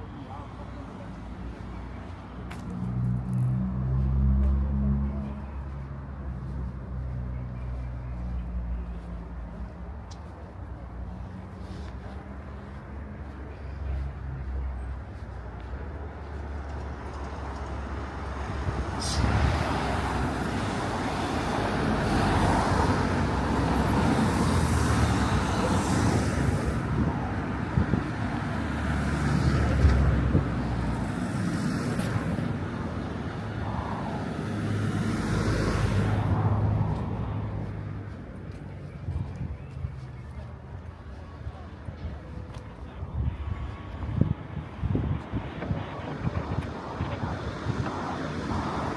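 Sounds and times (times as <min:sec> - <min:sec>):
road traffic passing: 0:00.0 - 0:48.9.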